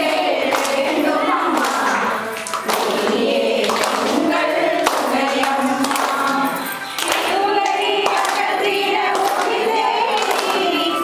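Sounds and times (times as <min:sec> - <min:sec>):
sharp hand claps: 0:00.0 - 0:10.8
group of women singing: 0:00.0 - 0:11.0.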